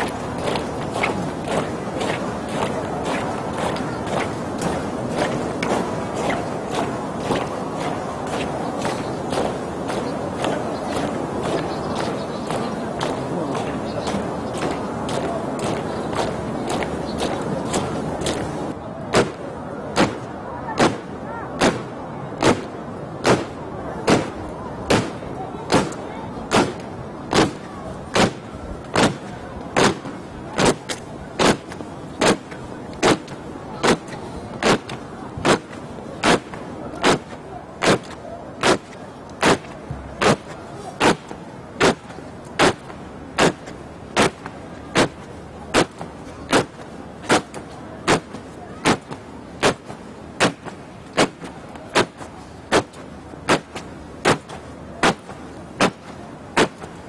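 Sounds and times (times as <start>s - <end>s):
boots stamping in unison: 0.0s - 18.6s, 28.2s - 56.9s.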